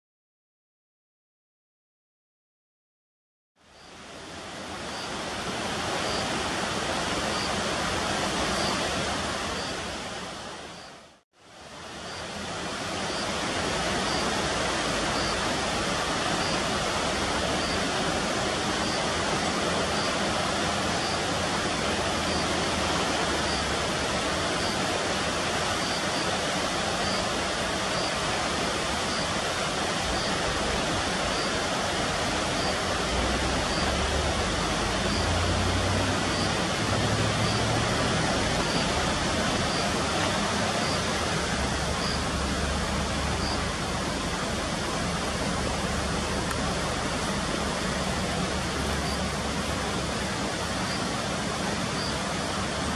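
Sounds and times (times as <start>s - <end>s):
river rushing: 3.6s - 52.9s.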